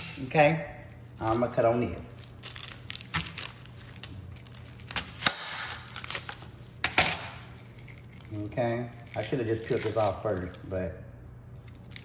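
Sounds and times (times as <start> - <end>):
dry onion skin crackling: 0.8 - 12.0.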